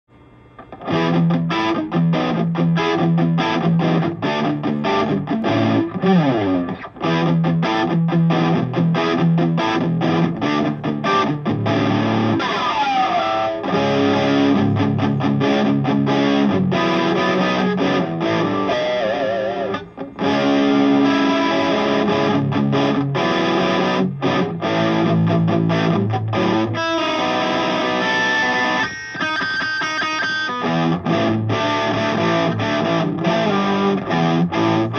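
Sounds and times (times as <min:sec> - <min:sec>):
distorted electric guitar riff: 0:00.1 - 0:34.9.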